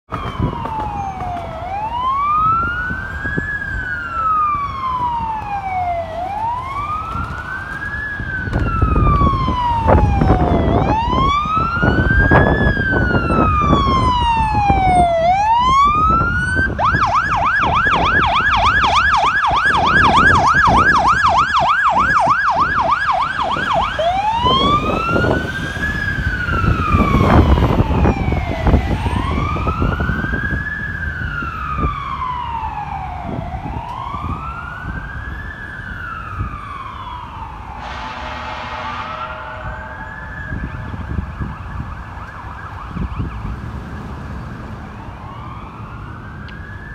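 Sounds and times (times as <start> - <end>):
fire truck siren wailing: 0.1 - 46.9.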